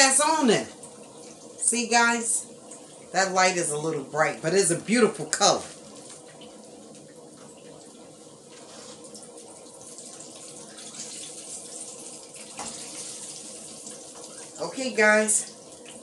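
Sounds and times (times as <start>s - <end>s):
chicken wings frying in oil: 0.0s - 16.0s.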